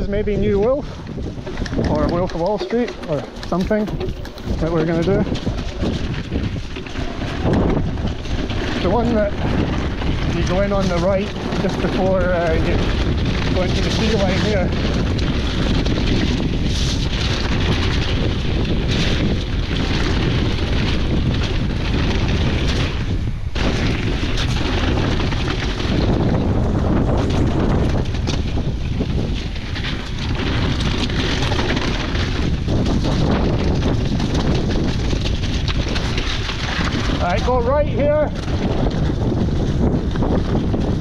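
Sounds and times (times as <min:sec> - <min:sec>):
bike rattling on rough ground: 0:00.0 - 0:41.0
wind buffeting microphone: 0:00.0 - 0:41.0.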